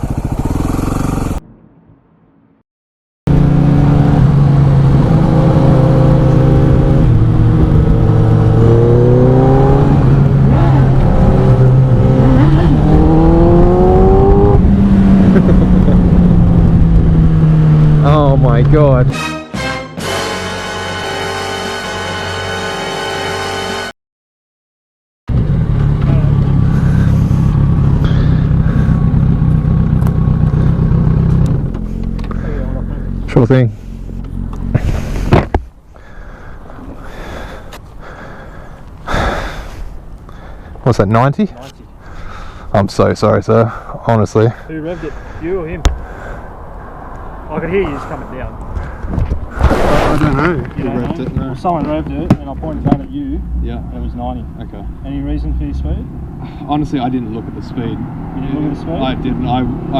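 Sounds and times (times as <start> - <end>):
motorcycle engines revving: 0.0 - 1.4, 3.3 - 19.1, 20.0 - 23.9, 25.3 - 39.7, 41.5 - 59.9.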